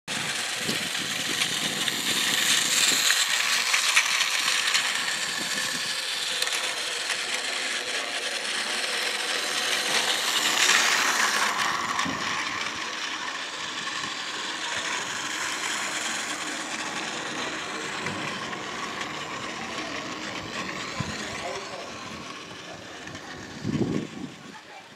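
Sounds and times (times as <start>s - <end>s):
plastic wheels rattling on track: 0.1s - 24.9s
toy train motor whirring: 0.1s - 24.9s.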